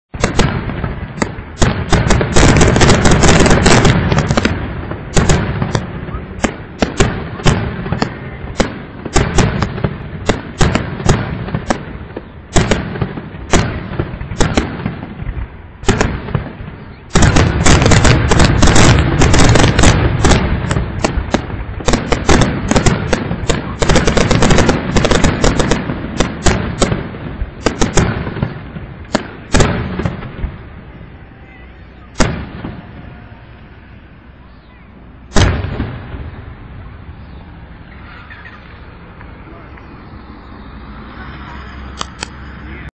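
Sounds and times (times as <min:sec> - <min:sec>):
fireworks booming: 0:00.1 - 0:42.9.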